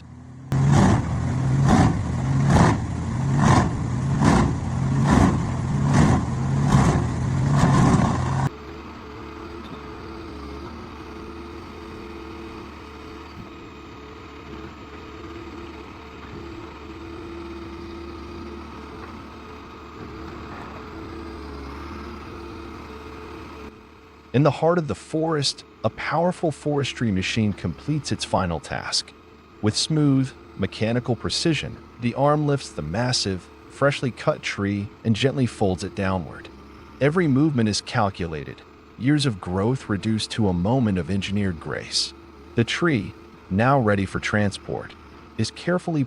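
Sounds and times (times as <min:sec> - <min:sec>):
engine hum: 0:00.0 - 0:46.0
wood chipper chewing tree trunk: 0:00.0 - 0:46.0.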